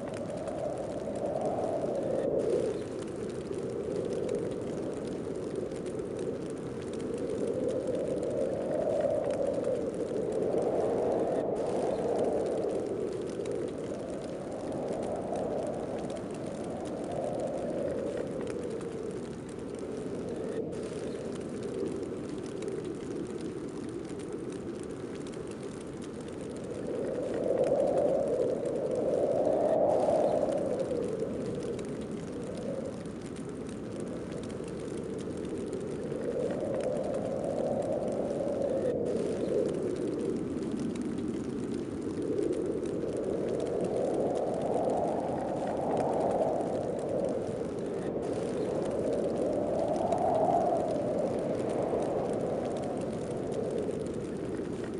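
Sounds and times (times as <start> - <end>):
snowstorm wind blowing: 0.0 - 54.9.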